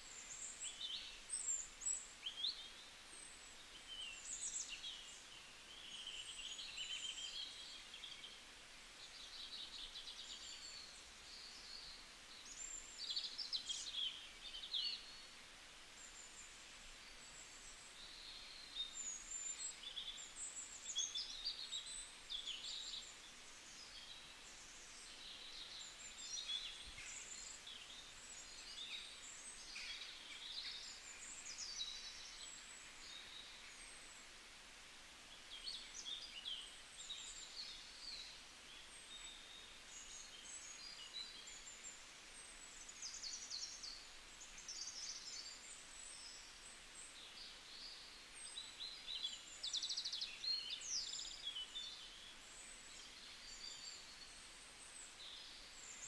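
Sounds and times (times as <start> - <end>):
faint steady hiss: 0.0 - 56.0
small birds chirping and twittering: 0.0 - 56.0.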